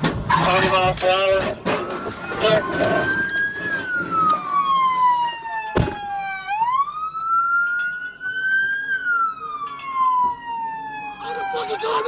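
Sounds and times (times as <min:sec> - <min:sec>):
police siren wailing: 0:00.1 - 0:12.0.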